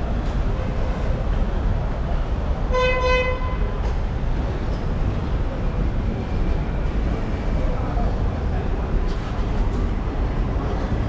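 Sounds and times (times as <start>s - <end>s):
railway station rumble: 0.0s - 11.0s.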